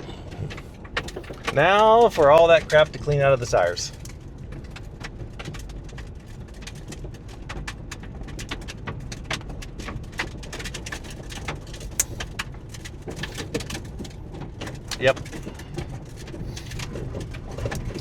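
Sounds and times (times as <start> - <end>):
grit ticking off tires: 0.0 - 18.0
pickup truck driving on dirt: 0.0 - 18.0.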